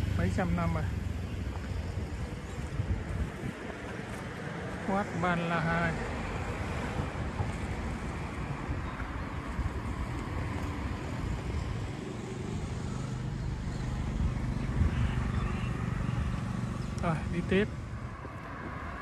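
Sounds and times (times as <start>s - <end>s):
street noise: 0.0s - 19.0s
vehicle engine hum: 0.0s - 19.0s
wind rumbling on microphone: 0.9s - 5.2s, 5.9s - 19.0s.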